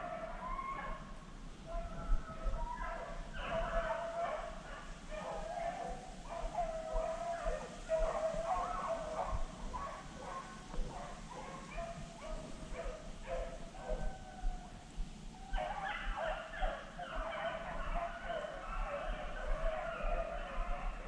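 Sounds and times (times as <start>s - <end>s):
hounds baying and yelping: 0.0s - 21.0s.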